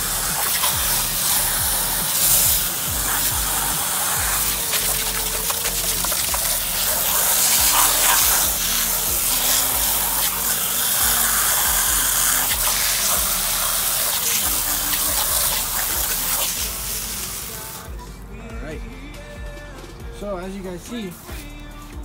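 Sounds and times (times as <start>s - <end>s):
hose water spraying onto sneakers: 0.0s - 17.9s, 20.9s - 22.0s.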